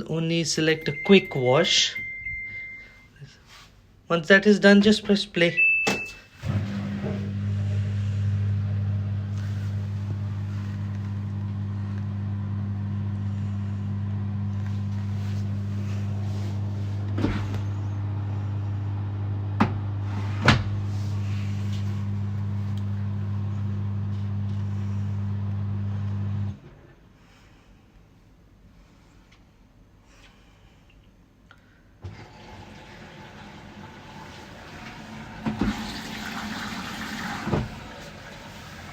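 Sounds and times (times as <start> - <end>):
washing machine hum: 0.0 - 3.1, 4.8 - 26.9, 32.0 - 38.9.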